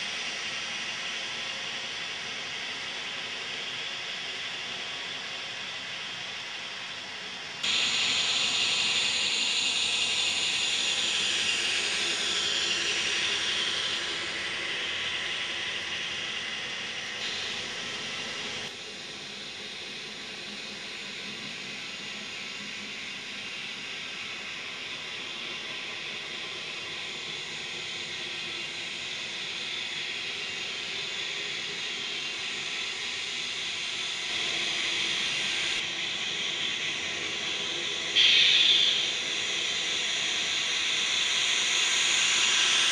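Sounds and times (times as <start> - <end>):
model train motor and wheels whirring: 0.0 - 42.9.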